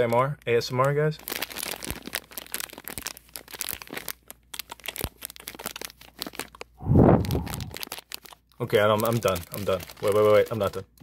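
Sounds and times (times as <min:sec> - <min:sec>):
crinkly plastic packaging rustling: 0:00.0 - 0:11.0.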